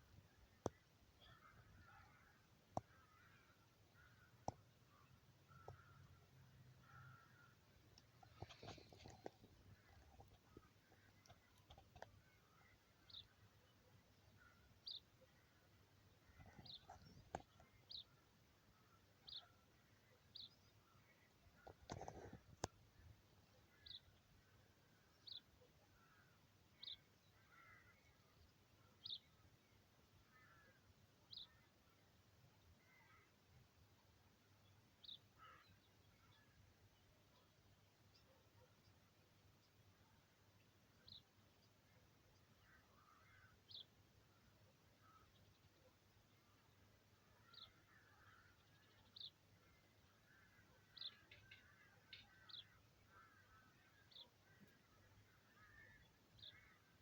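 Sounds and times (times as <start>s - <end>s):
faint birdsong chirps: 0.0s - 57.0s.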